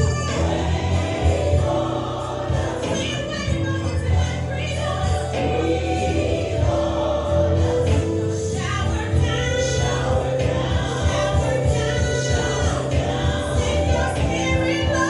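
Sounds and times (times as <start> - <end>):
choir singing gospel song: 0.0 - 15.0
sustained bass notes: 0.0 - 15.0.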